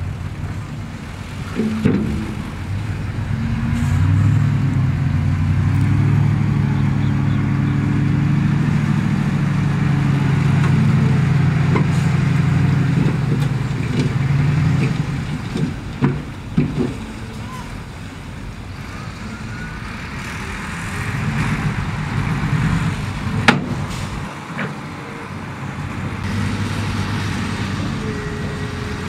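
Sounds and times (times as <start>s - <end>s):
diesel truck engine revving: 0.0s - 29.0s.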